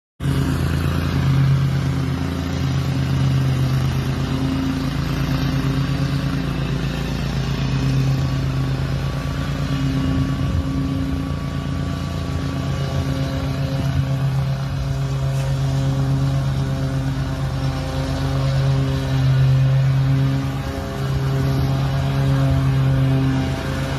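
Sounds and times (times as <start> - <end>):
lawn mower engine running: 0.2 - 23.9.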